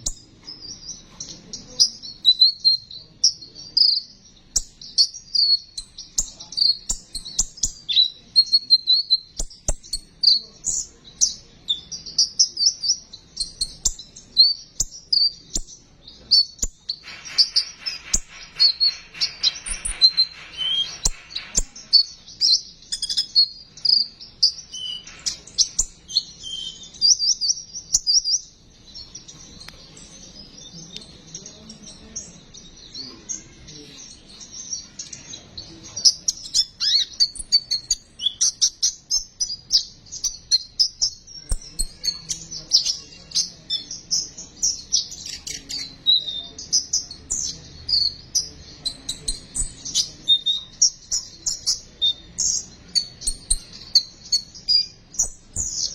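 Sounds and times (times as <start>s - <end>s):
bird chirping and trilling: 0.0s - 55.9s.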